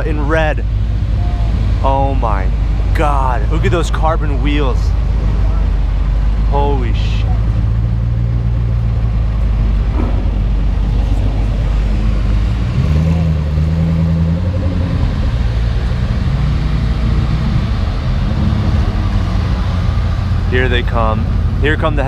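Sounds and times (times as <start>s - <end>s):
car engines rumbling past: 0.0s - 22.0s.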